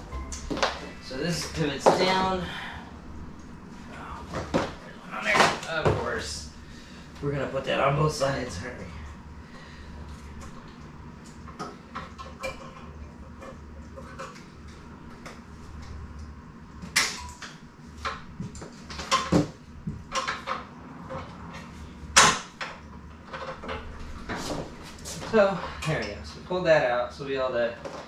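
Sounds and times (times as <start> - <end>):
low steady hum: 0.0 - 27.3.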